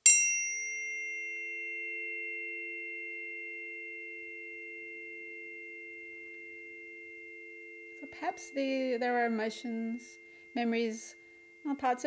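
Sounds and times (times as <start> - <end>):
tuning forks ringing: 0.0 - 12.0.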